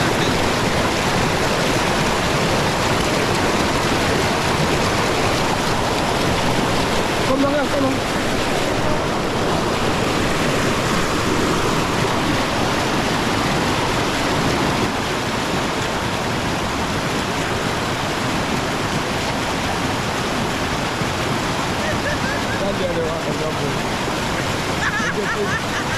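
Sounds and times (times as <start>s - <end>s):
river water rushing over rocks: 0.0s - 25.9s.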